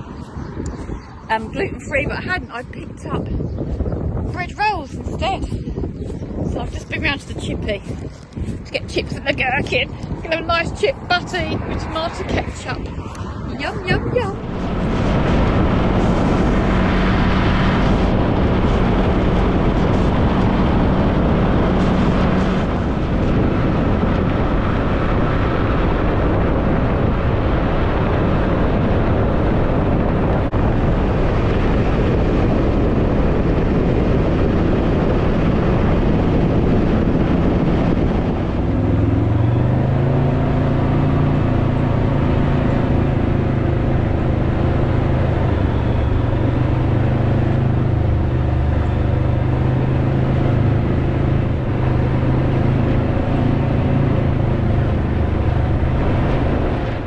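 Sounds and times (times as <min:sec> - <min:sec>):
motorcycle engine hum: 0:00.0 - 0:57.0
wind and road noise: 0:00.0 - 0:57.0.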